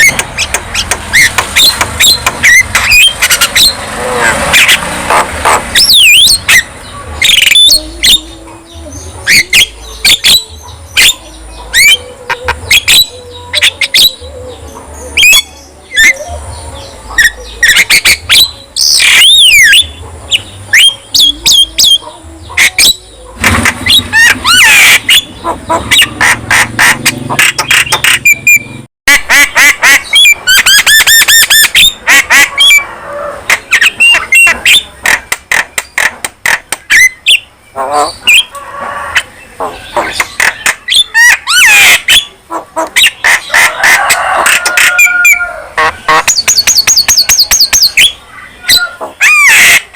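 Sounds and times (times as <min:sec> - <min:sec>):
bird singing with clicks and whistles: 0:00.0 - 0:03.8, 0:05.7 - 0:32.8, 0:33.5 - 0:38.6, 0:39.2 - 0:43.6, 0:44.5 - 0:49.9.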